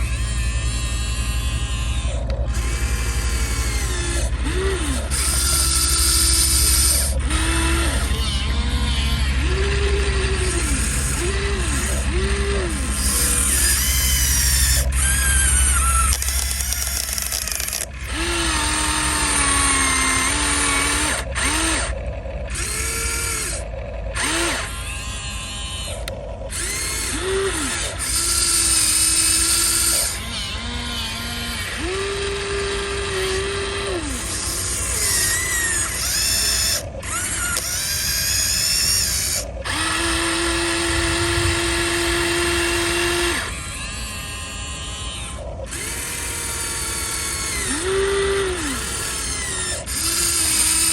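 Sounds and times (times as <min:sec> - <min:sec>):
toy electric motors whining: 0:00.0 - 0:50.9.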